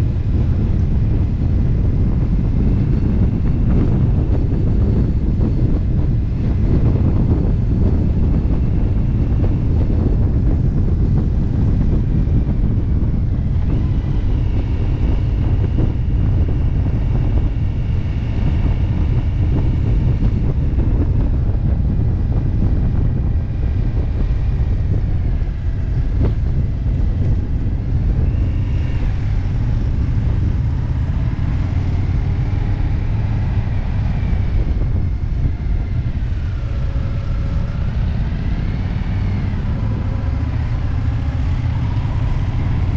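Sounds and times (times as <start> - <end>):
motorcycle engine drone: 0.0 - 42.9
wind noise on microphone: 0.0 - 42.9.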